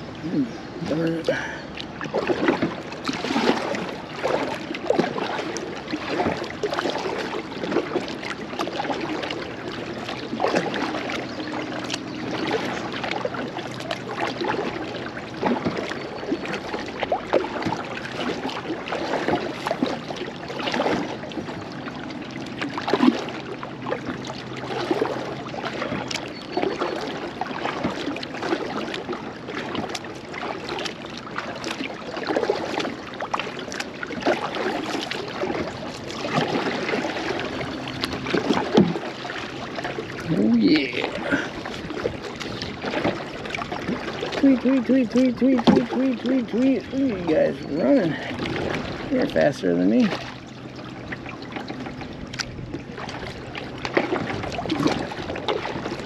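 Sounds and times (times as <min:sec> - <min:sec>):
paddle strokes through water: 0:00.0 - 0:56.0
water lapping on plastic hull: 0:00.0 - 0:56.0.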